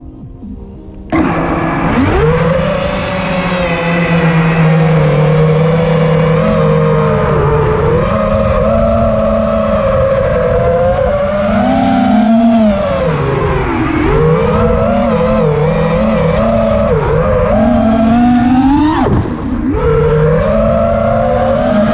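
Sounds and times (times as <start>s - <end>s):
quadcopter motors whining: 1.1s - 21.9s.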